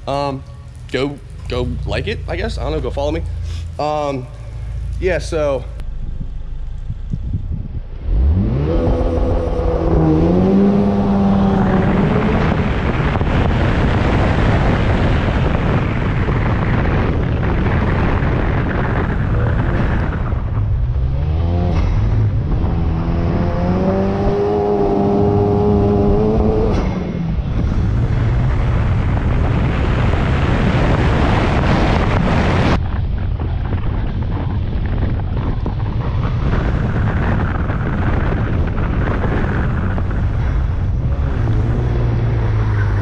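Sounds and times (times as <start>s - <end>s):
wind and wet road rushing: 0.0s - 43.0s
car engine accelerating hard: 1.4s - 43.0s.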